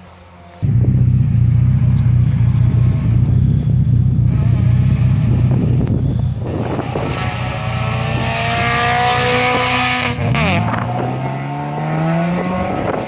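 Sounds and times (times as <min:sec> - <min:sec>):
rally car engine droning and revving: 0:00.3 - 0:13.0.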